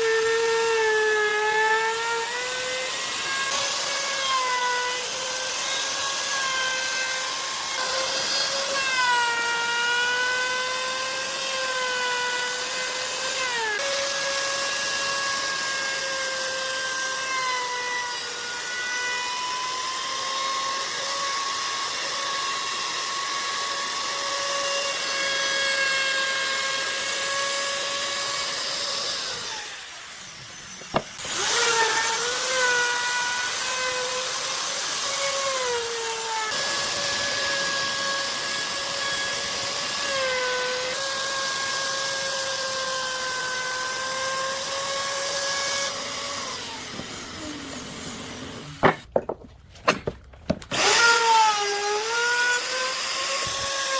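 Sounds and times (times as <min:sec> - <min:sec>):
electric power tool motor whining: 0:00.0 - 0:49.0, 0:50.6 - 0:53.9.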